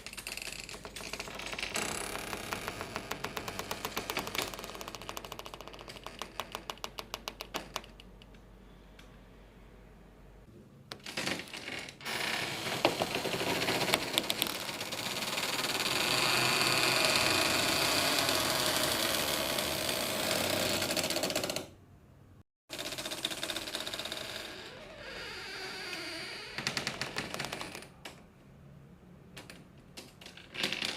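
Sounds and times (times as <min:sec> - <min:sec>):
door creaking and rattling: 0:00.0 - 0:08.4, 0:10.9 - 0:21.8, 0:22.7 - 0:28.4, 0:29.4 - 0:30.9.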